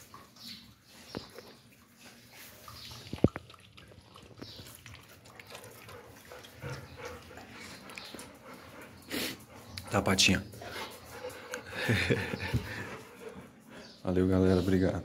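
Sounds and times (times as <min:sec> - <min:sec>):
dog lapping water: 0:00.0 - 0:13.6.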